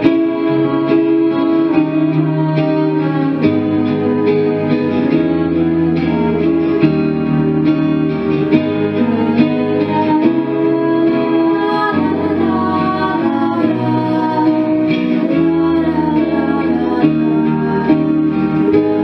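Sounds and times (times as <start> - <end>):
girls singing a duet: 0.0 - 7.0, 8.8 - 19.0
plucked guitar accompaniment: 0.0 - 19.0.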